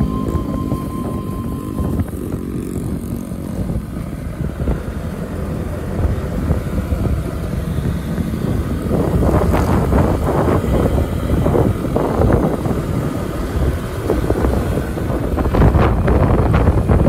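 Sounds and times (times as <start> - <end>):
motorcycle engine running: 0.0 - 17.0
wind on microphone: 0.0 - 17.0.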